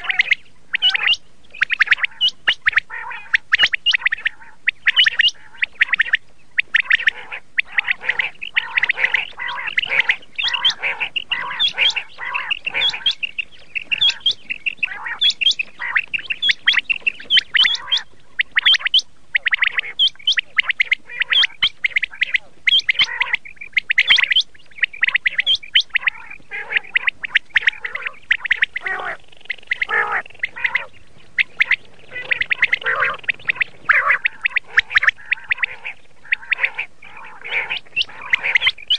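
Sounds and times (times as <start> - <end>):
quail calling: 0.0 - 38.9.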